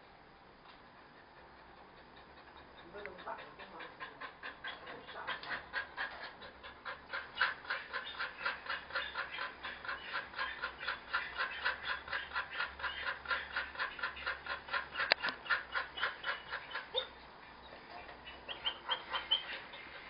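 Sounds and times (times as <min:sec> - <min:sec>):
dog panting rapidly: 0:00.6 - 0:17.2.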